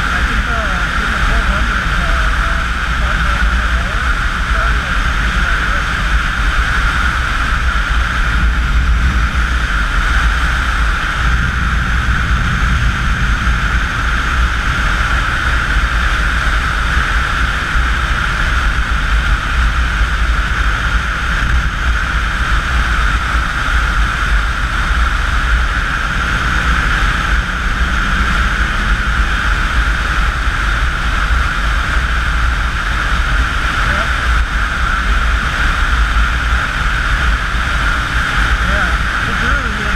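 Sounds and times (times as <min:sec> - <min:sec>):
motorcycle engine drone: 0:00.0 - 0:39.9
wind buffeting microphone: 0:00.0 - 0:39.9.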